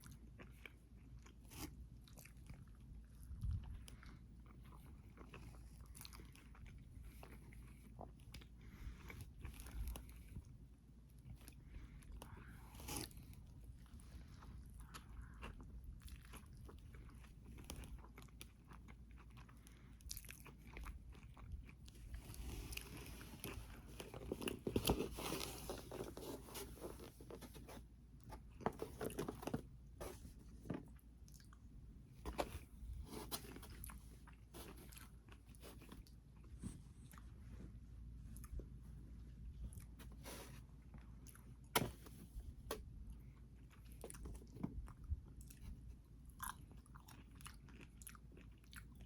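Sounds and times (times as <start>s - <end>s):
person chewing crunchy food: 0.0s - 30.2s, 30.8s - 37.3s, 42.8s - 49.0s.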